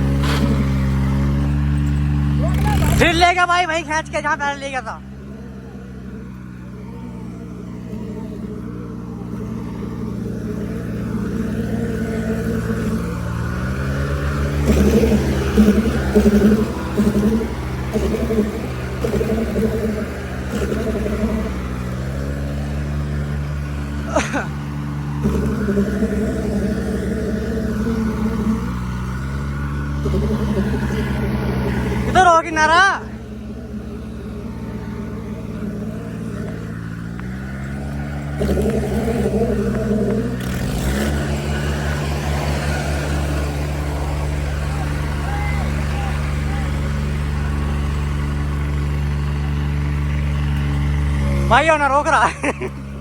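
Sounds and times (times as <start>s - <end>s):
diesel tractor engines under load: 0.0s - 53.0s.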